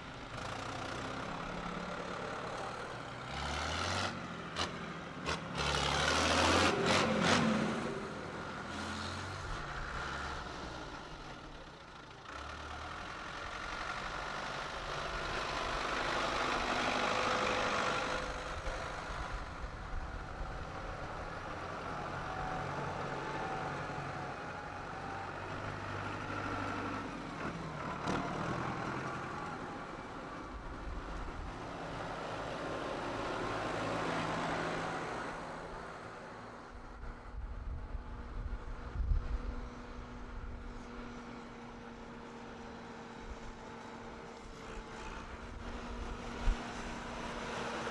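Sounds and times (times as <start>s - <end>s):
tractor engines running: 0.0s - 47.9s.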